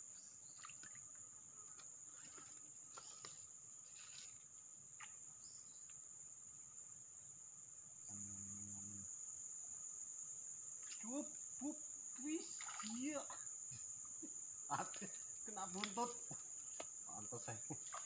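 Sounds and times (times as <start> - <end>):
forest insects droning: 0.0 - 18.0.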